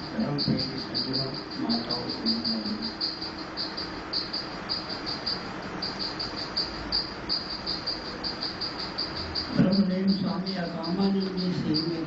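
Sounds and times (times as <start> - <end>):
insect chirping: 0.0 - 12.0
steady hiss: 0.0 - 12.0.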